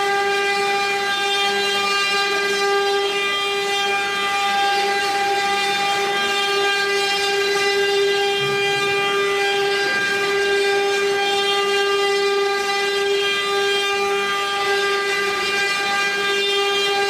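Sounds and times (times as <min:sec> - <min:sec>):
router spindle motors whining: 0:00.0 - 0:17.0.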